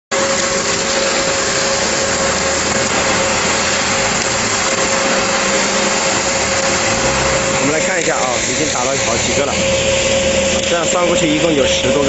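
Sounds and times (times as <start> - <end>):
concrete mixer pump running: 0.1 - 12.0.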